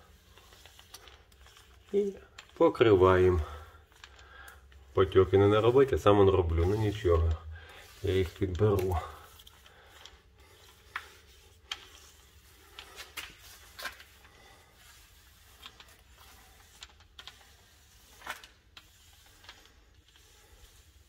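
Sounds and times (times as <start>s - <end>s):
paint roller rolling: 0.0s - 21.0s.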